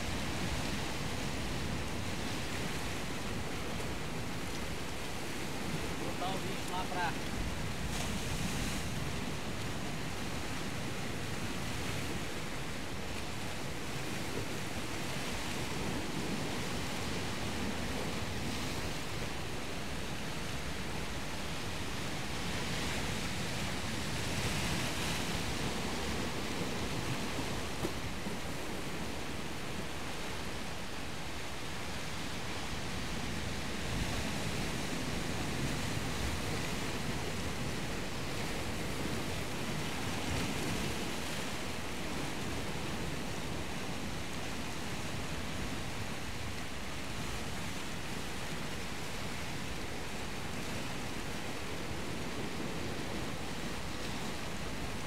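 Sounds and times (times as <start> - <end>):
surf washing: 0.0 - 55.0.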